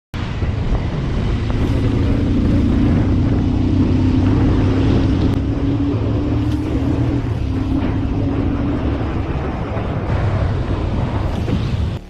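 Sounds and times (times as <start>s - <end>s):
wind and road noise: 0.1s - 12.0s
motorcycle engine droning: 0.2s - 12.0s.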